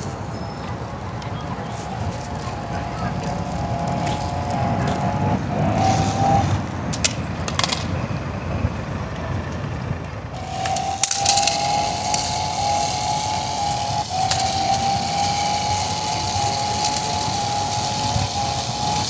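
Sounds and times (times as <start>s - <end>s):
rc car motor whine: 0.0s - 8.8s, 10.2s - 19.0s.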